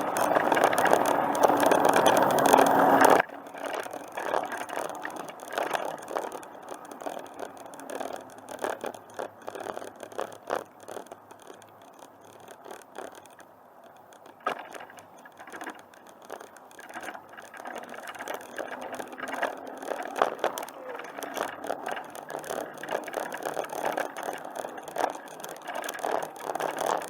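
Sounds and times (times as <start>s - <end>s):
bicycle rattling: 0.0s - 27.0s.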